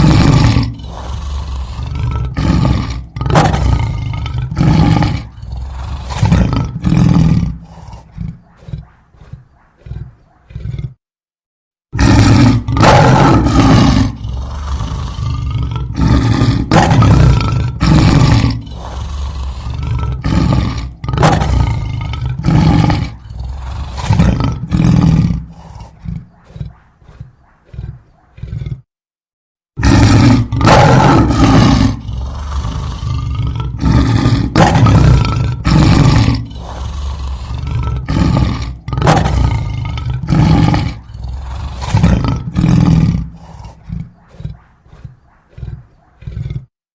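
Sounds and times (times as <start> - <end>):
lion roaring and grunting: 0.0 - 11.0, 11.9 - 28.9, 29.8 - 46.8.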